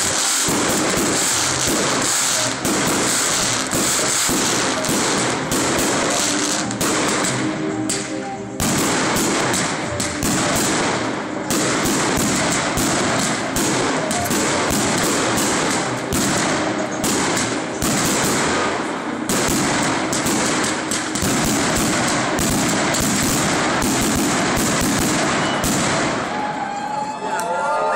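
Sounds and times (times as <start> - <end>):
fireworks bangs and pops: 0.0 - 26.5
fireworks rushing noise: 0.0 - 26.7.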